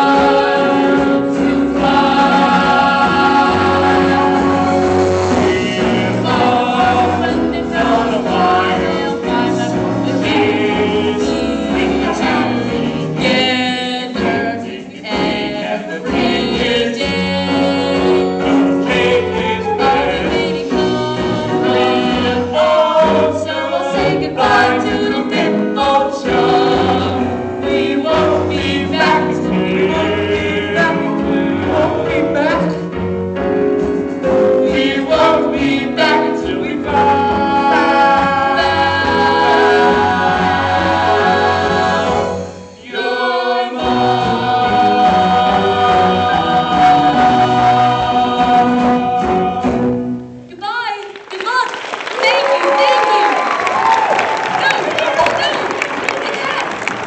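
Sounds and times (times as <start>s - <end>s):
ensemble singing a chorus: 0.0s - 33.1s, 34.2s - 50.4s
instrumental accompaniment: 0.0s - 50.6s.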